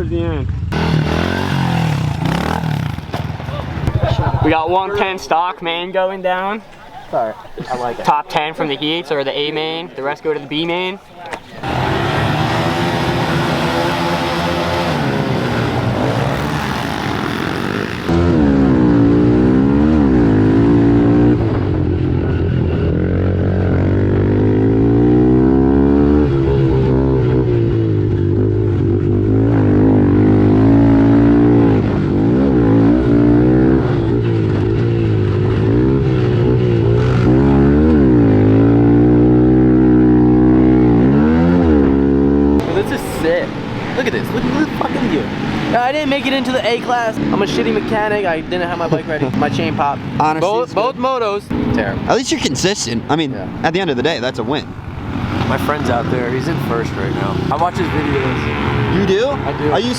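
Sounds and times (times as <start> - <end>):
pit bike engines revving: 0.0 - 59.9.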